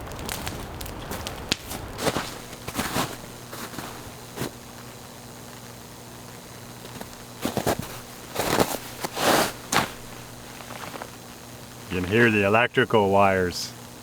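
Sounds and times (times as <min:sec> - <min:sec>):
crunching rustling noises: 0:00.0 - 0:12.6
power lines humming: 0:00.0 - 0:14.0.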